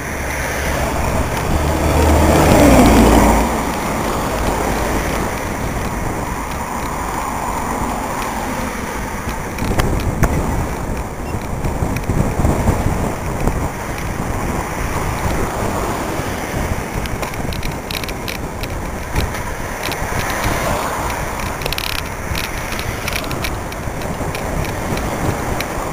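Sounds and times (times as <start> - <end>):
motor vehicle passing: 0.0 - 25.9
wind rumbling on microphone: 0.0 - 25.9.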